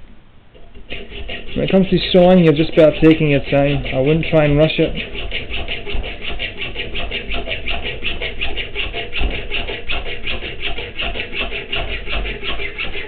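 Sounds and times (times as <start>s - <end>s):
hacksaw cutting metal: 0.5s - 13.0s.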